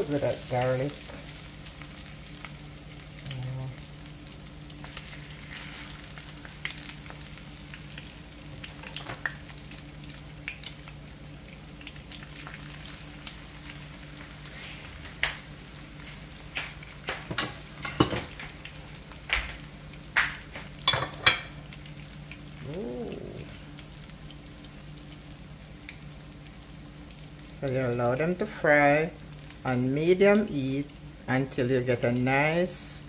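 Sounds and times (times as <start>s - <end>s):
plantain slices sizzling in oil: 0.0s - 33.0s.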